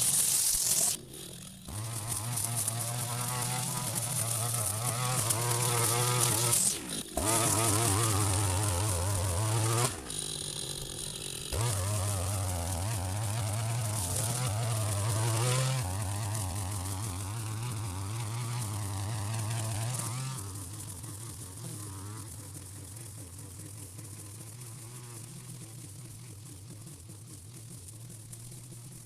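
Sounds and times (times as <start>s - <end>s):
strimmer engine cutting: 0.0s - 29.0s.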